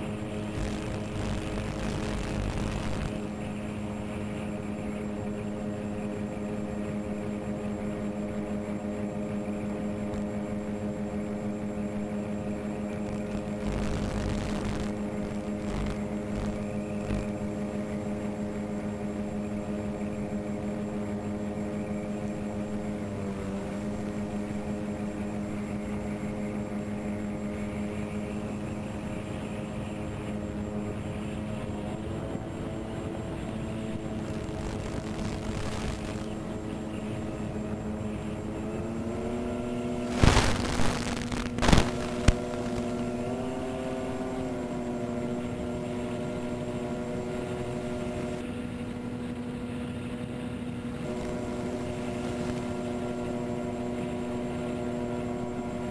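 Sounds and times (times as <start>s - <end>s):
electric motors and propellers humming: 0.0s - 55.9s.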